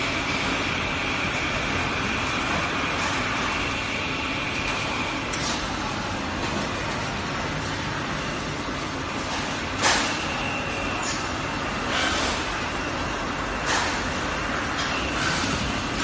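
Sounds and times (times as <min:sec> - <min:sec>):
conveyor machinery din: 0:00.0 - 0:16.0.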